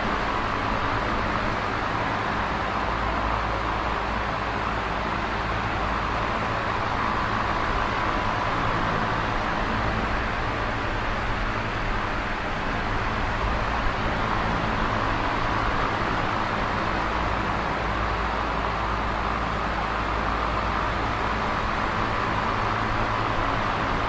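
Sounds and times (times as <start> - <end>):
electric fan air rush: 0.0 - 24.0.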